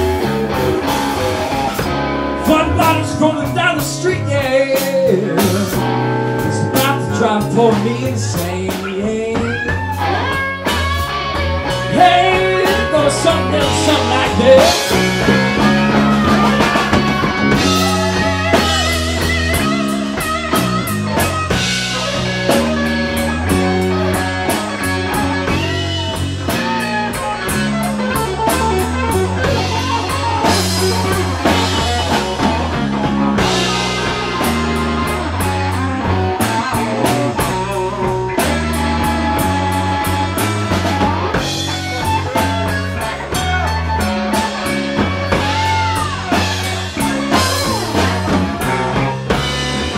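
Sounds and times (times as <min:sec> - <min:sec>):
blues rock band playing: 0:00.0 - 0:49.9
electric guitar lead bent notes: 0:00.0 - 0:49.9.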